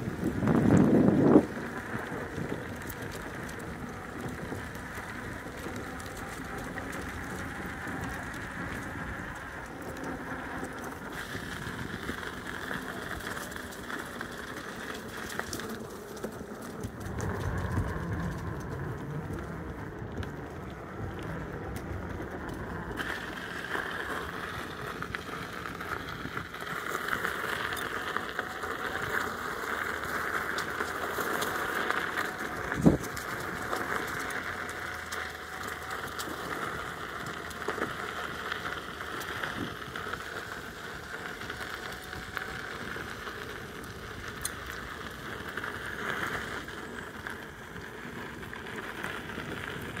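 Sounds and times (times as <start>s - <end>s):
tyre crunching over gravel: 0.0s - 50.0s.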